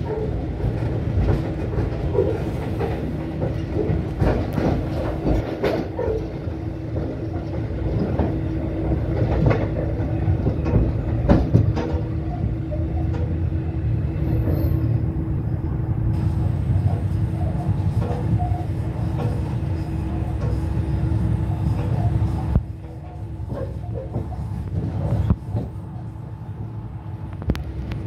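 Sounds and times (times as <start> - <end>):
constant hum: 0.0 - 28.0
train rumbling along track: 0.0 - 28.0.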